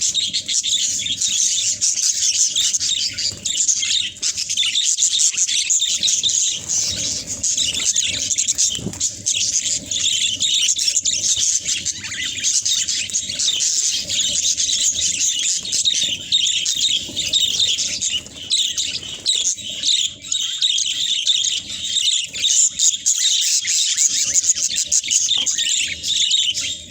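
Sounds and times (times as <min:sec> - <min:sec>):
flock of budgerigars chattering: 0:00.0 - 0:26.9.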